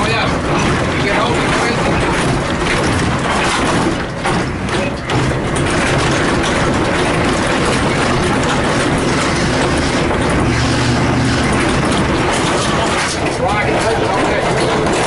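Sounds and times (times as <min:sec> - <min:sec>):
diesel engine running under load: 0:00.0 - 0:15.0
metal body rattling: 0:00.0 - 0:15.0.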